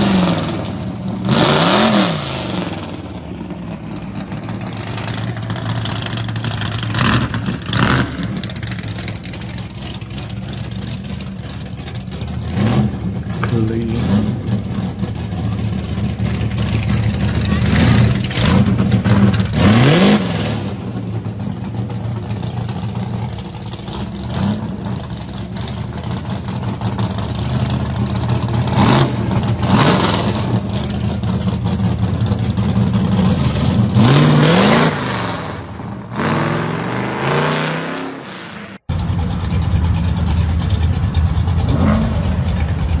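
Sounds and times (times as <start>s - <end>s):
muscle car engine revving: 0.0s - 43.0s.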